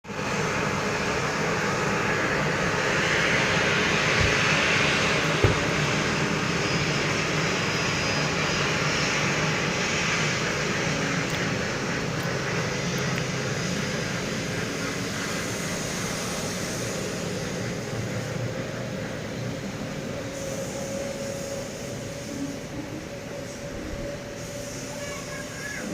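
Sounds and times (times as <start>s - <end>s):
jet engines at takeoff thrust: 0.0s - 25.9s.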